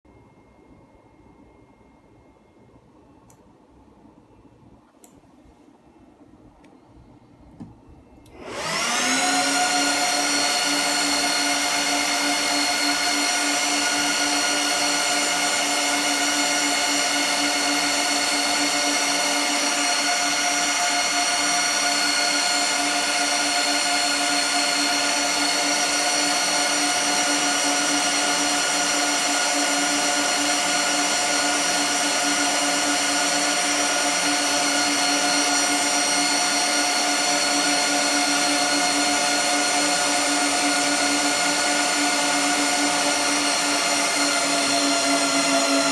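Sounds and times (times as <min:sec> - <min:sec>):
motor whining: 0:08.3 - 0:45.9.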